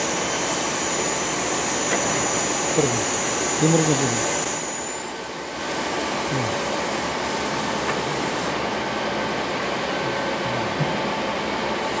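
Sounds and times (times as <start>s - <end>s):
lapping machine motor whir: 0.0s - 12.0s.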